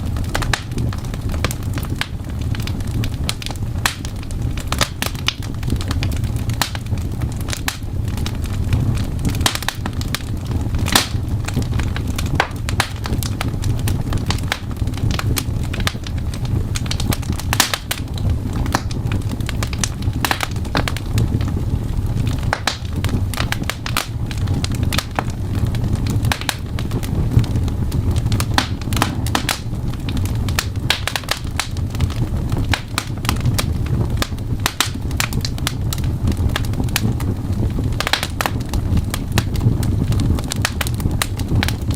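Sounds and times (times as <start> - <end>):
fireplace crackling: 0.0 - 41.9
low rumble: 0.0 - 41.9.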